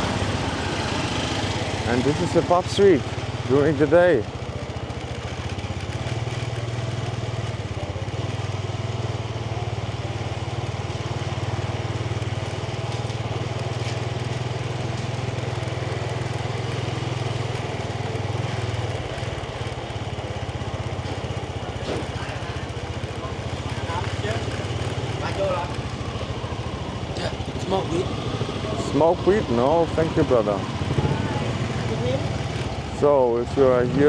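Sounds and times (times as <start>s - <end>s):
motorbike engine running: 0.0s - 34.0s.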